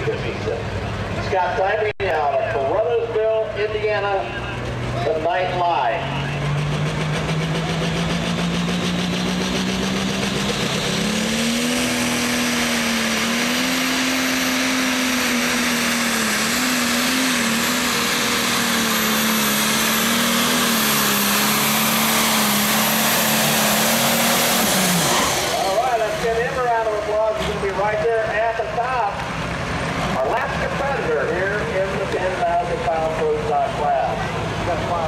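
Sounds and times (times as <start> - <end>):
tractor diesel at full throttle: 0.0 - 35.0.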